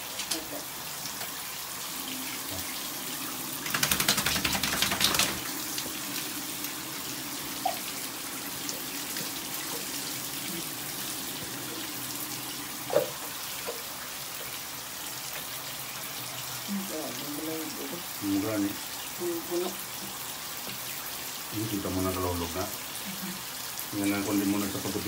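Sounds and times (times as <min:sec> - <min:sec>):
water running from a tap: 0:00.0 - 0:25.0.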